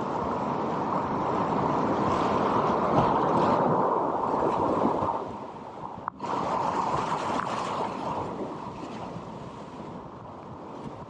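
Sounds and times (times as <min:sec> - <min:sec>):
rushing river rapid: 0:00.0 - 0:09.4.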